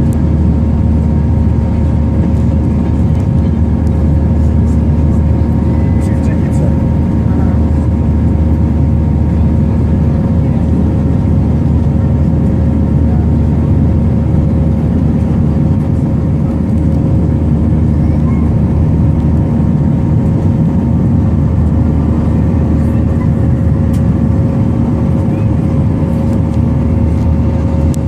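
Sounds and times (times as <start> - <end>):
aircraft cabin engine rumble: 0.0 - 28.0
steady humming tones: 0.0 - 28.0.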